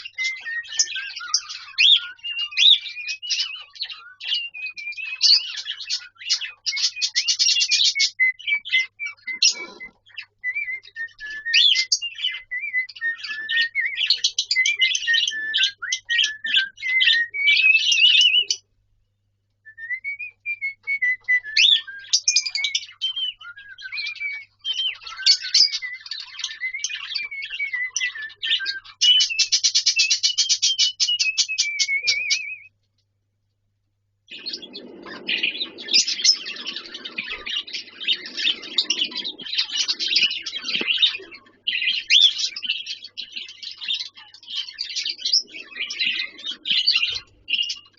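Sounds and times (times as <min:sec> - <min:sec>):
cockatiel whistling and chattering: 0:00.0 - 0:18.7, 0:19.7 - 0:32.7, 0:34.3 - 0:47.9.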